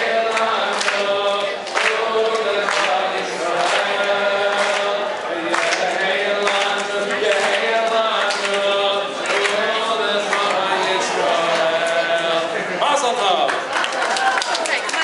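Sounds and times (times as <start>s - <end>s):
congregation singing a chant: 0.0s - 12.8s
man singing into a microphone: 0.0s - 12.8s.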